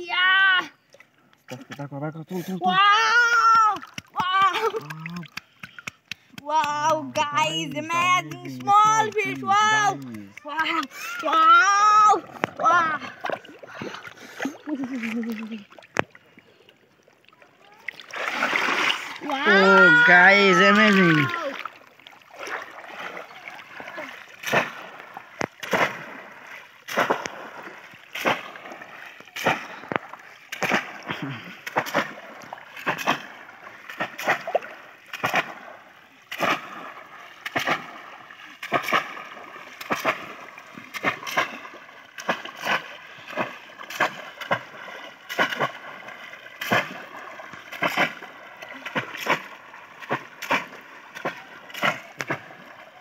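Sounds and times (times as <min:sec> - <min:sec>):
fish traps splashing in water: 0:03.0 - 0:16.2, 0:17.6 - 0:53.0.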